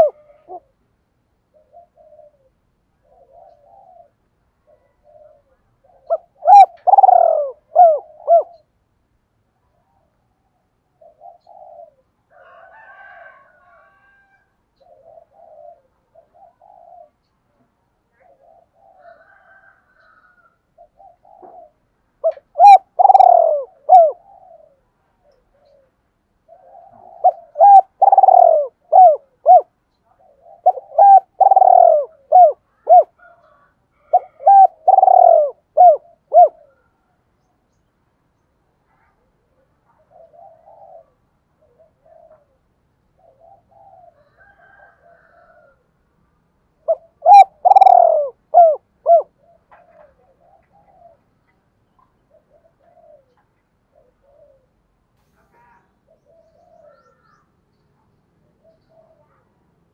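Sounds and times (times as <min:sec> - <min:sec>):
dove cooing: 0:00.0 - 0:00.8, 0:01.4 - 0:08.8, 0:09.8 - 0:37.2, 0:38.9 - 0:45.9, 0:46.8 - 0:57.4, 0:58.4 - 0:59.9
soft faint cooing: 0:00.0 - 0:08.8, 0:09.7 - 0:37.3, 0:38.7 - 0:46.1, 0:46.8 - 0:59.9.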